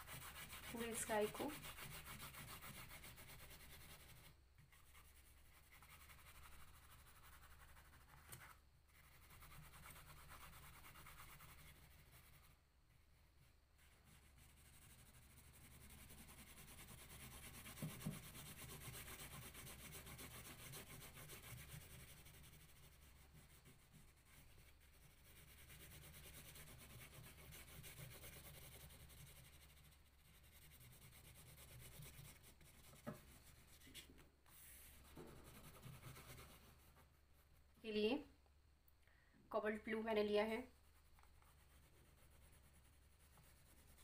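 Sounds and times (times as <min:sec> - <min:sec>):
crayon scratching on paper: 0:00.0 - 0:12.6, 0:13.8 - 0:38.0, 0:40.3 - 0:44.0.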